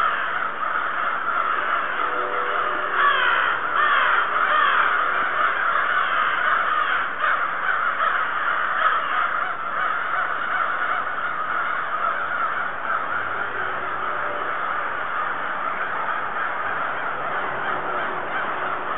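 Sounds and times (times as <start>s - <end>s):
flock of birds calling: 0.0s - 18.9s.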